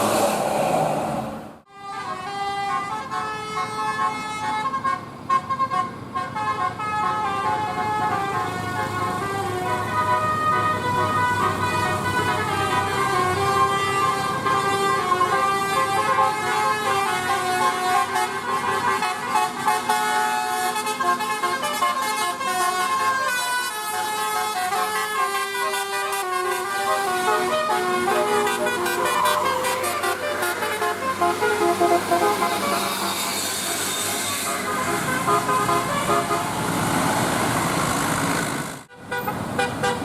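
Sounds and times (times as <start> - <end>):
multi-trumpet air horn tune: 1.7 - 36.6.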